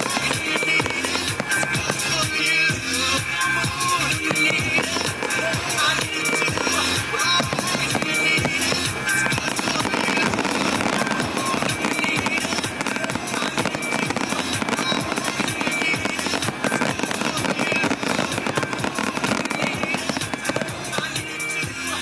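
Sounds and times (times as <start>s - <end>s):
fireworks crackling bursts: 0.0s - 22.0s
music playing: 0.0s - 22.0s.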